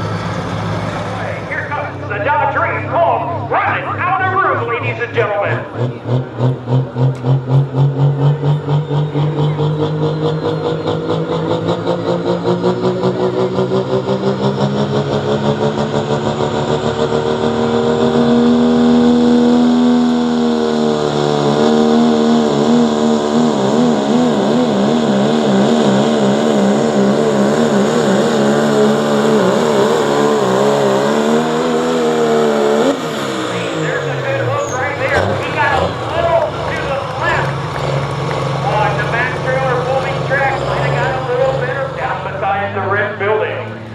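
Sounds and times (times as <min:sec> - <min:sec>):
pickup truck engine at full throttle: 0:00.0 - 0:43.9.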